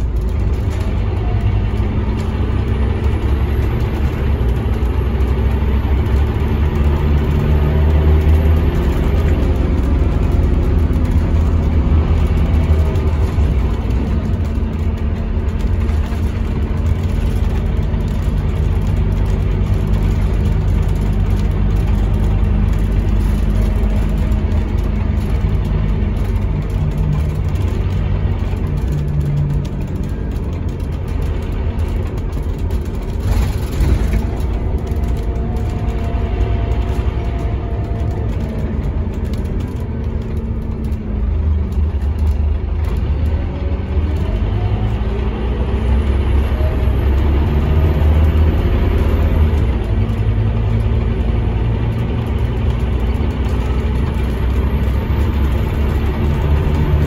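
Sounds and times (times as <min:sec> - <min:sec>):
bus engine droning: 0:00.0 - 0:57.0
road noise: 0:00.0 - 0:57.0.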